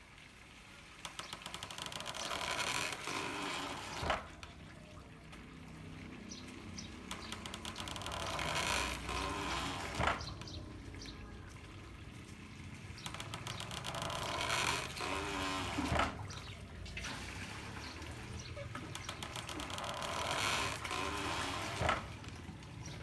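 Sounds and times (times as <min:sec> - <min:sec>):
rush of spilling water: 0:00.0 - 0:23.0
water trickling: 0:00.0 - 0:23.0.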